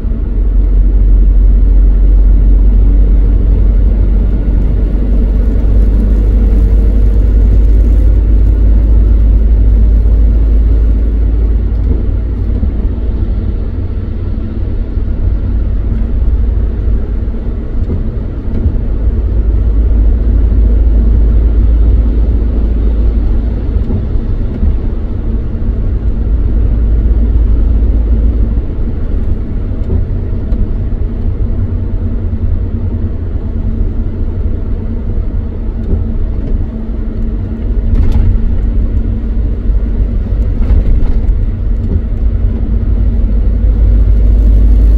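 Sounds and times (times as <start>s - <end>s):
vehicle engine and tyres rumbling: 0.0s - 44.9s.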